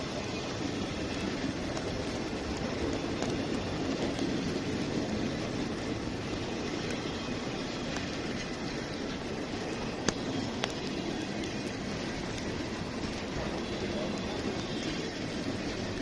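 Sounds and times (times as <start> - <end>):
freight train rumbling past: 0.0 - 16.0
heavy rain: 0.0 - 16.0.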